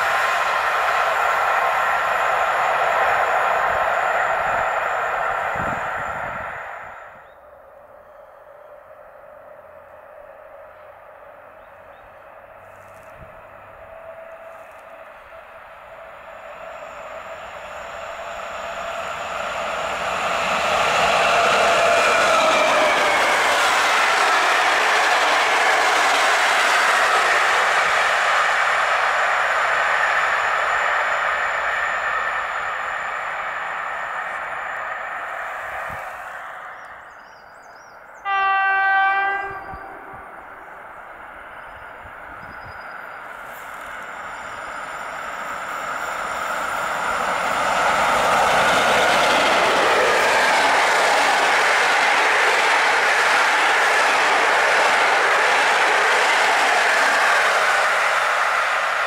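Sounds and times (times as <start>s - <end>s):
train coaches rolling on rails: 0.0s - 6.9s, 7.8s - 59.0s.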